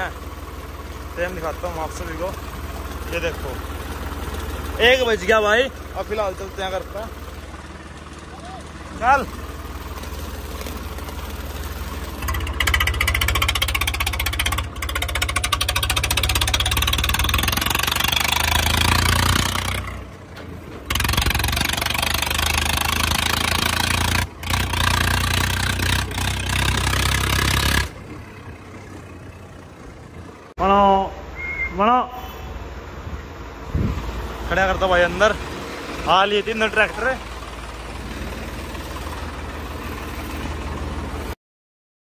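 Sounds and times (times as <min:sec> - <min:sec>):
tractor diesel engine running: 0:00.0 - 0:41.4.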